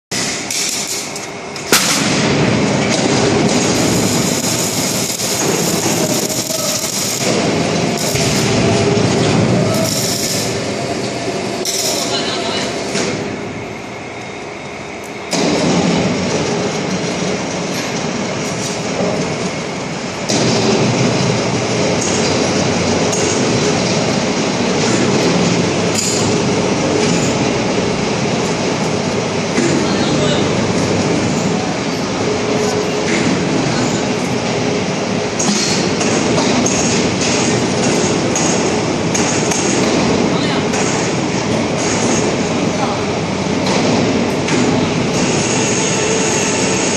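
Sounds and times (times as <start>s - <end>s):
mechanical rumble with clattering: 0.1s - 46.9s.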